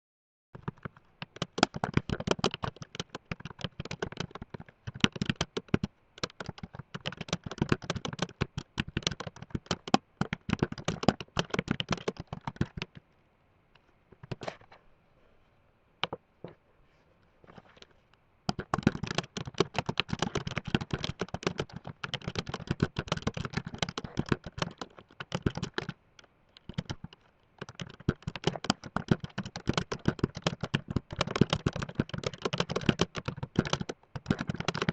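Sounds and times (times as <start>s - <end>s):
fast typing on keyboard: 0.6s - 13.0s, 18.5s - 34.9s.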